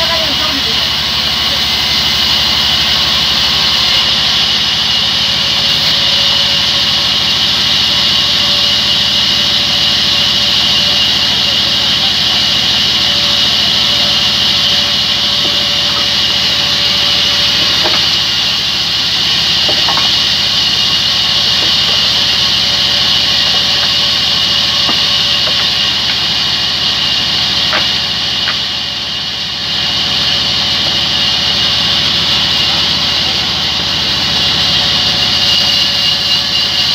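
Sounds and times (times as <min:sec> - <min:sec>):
band saw blade cutting wood: 0:00.0 - 0:36.9
machine hum: 0:00.0 - 0:36.9.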